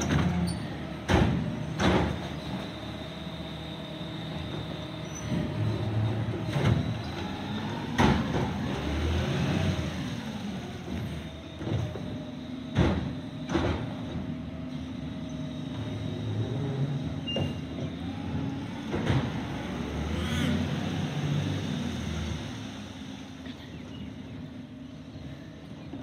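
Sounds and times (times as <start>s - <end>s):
garbage truck diesel engine: 0.0s - 26.0s.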